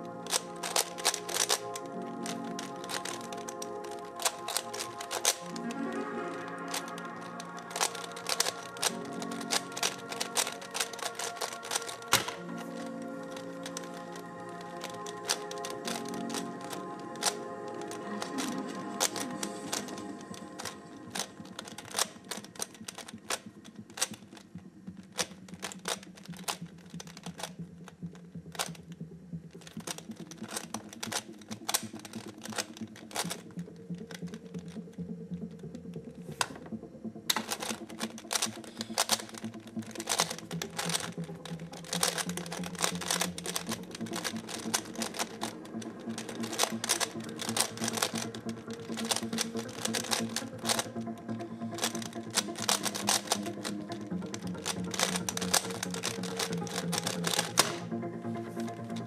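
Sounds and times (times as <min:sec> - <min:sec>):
puzzle cube turning clicks: 0:00.0 - 0:59.0.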